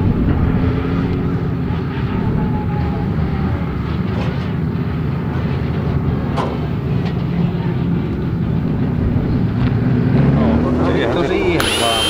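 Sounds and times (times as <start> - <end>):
tyre and track noise: 0.0 - 11.5.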